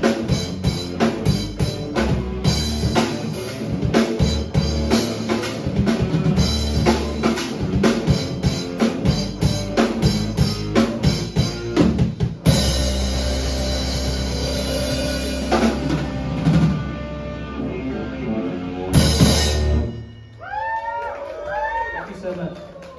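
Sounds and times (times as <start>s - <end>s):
drum kit: 0.0s - 20.4s
electric bass: 0.0s - 20.4s
electric guitar: 0.0s - 20.4s.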